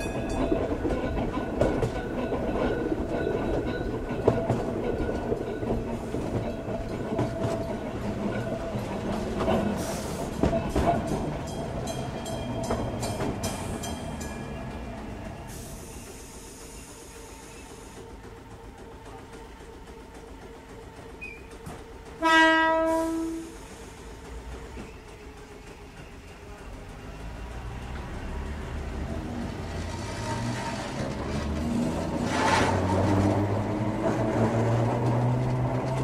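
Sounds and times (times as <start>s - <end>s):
train wheels clicking on track: 0.0s - 36.0s.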